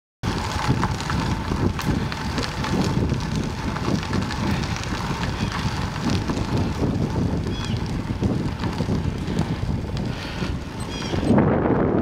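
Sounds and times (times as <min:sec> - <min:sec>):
tyres rolling on gravel: 0:00.2 - 0:12.0
wind buffeting microphone: 0:00.2 - 0:12.0.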